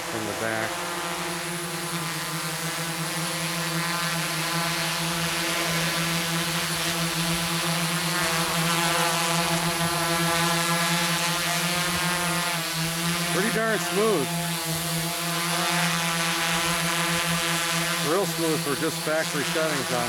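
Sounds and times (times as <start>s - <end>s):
quadcopter propeller hum: 0.0s - 20.0s.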